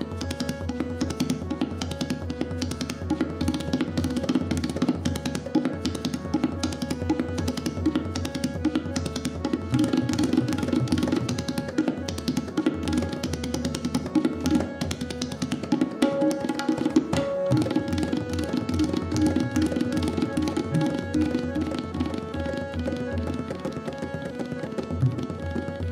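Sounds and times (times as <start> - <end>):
harmonium holding notes: 0.0 - 25.9
tabla played fast: 0.0 - 25.9.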